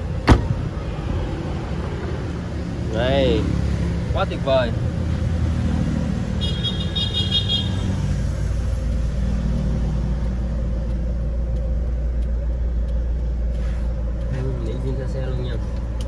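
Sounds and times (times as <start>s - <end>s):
low vehicle rumble: 0.0s - 6.4s, 7.7s - 16.0s.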